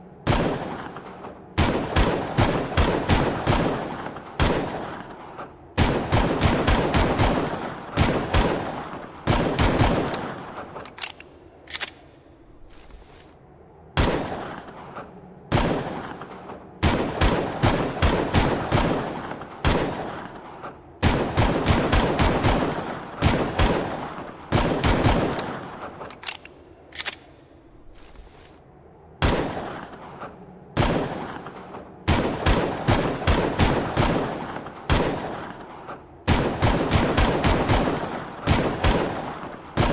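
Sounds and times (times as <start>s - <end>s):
rapid pistol gunshots echoing: 0.2s - 12.2s, 14.0s - 27.4s, 29.2s - 39.9s.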